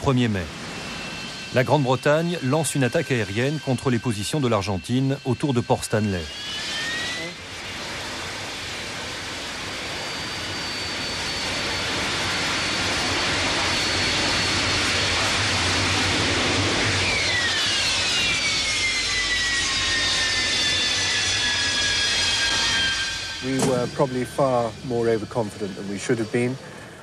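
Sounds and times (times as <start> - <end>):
jet aircraft flying past: 0.0 - 27.0.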